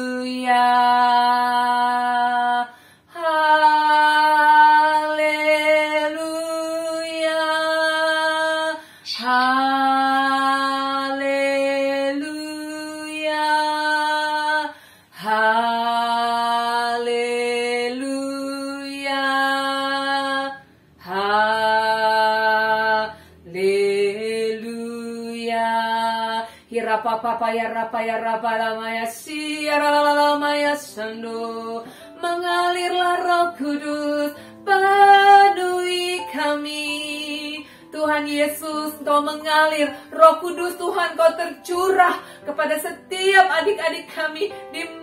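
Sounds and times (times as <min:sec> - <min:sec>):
woman singing unaccompanied: 0:00.0 - 0:45.0.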